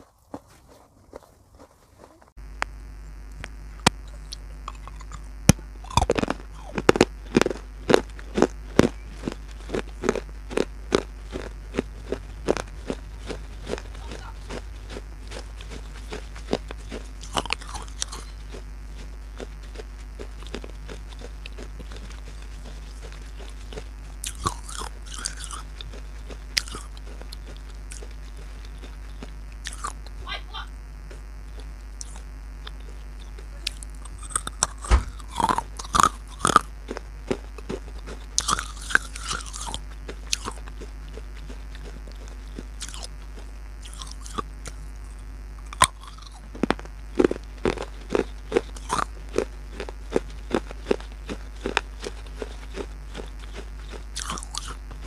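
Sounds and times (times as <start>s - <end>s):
chewing: 0.0s - 2.3s, 3.9s - 30.2s, 31.0s - 55.0s
crunching baked clay: 0.0s - 55.0s.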